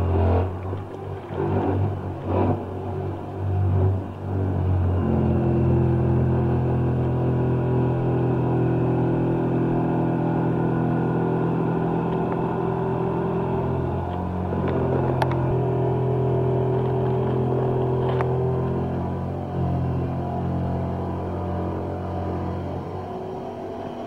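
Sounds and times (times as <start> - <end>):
dark synth drone: 0.0 - 24.0.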